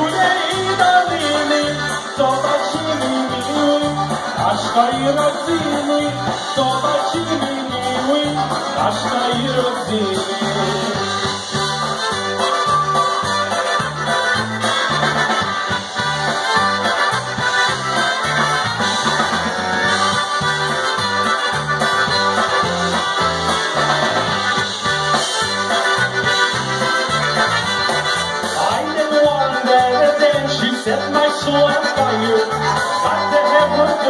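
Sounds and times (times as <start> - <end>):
polka band playing: 0.0 - 34.0
pulsing bass line: 0.0 - 34.0
trumpets: 0.0 - 34.0.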